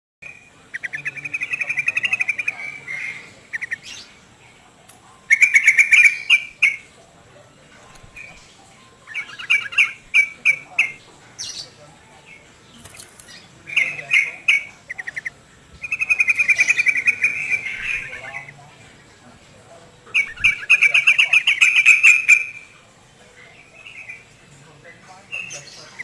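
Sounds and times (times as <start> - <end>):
songbirds chirping trills: 0.2 - 26.0.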